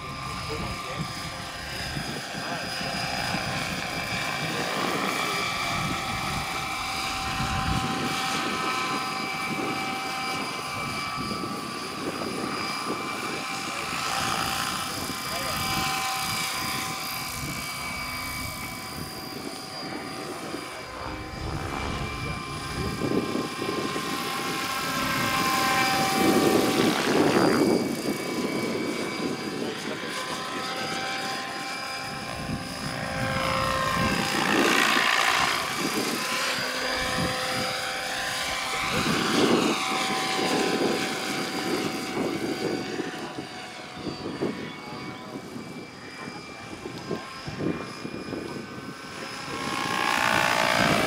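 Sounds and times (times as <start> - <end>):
model helicopter rotor whine: 0.0 - 51.0.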